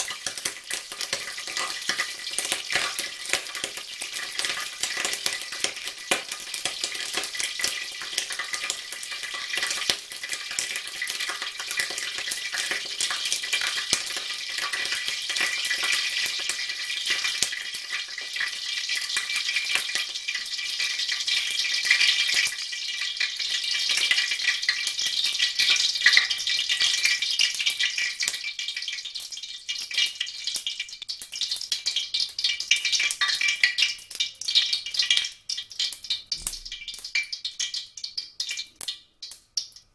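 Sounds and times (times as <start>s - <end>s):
water crackling in hot oil: 0.0s - 39.9s.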